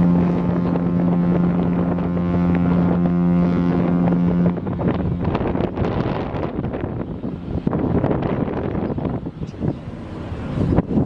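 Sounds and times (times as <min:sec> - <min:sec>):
ship horn long low blast: 0:00.0 - 0:11.0
wind buffeting microphone: 0:00.0 - 0:11.0.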